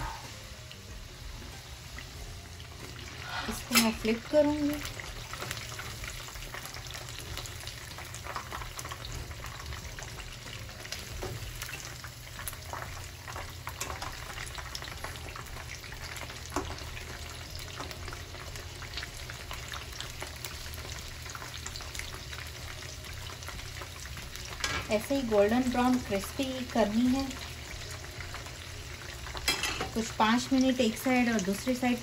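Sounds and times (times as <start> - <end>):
chicken deep-frying in oil: 0.0 - 32.0.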